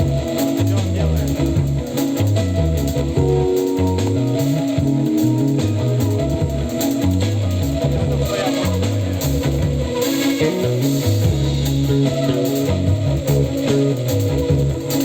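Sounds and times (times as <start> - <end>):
bass line: 0.0 - 15.0
guitar: 0.0 - 15.0
percussion: 0.0 - 15.0
steady drum beat: 0.0 - 15.0.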